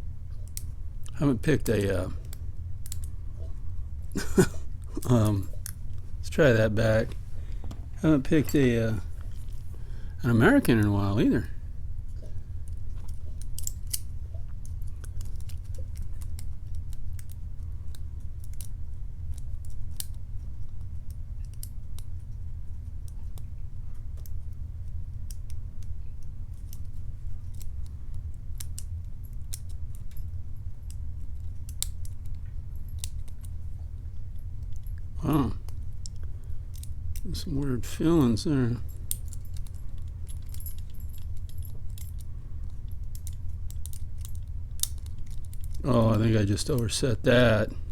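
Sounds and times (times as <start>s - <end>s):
low hum: 0.0s - 47.9s.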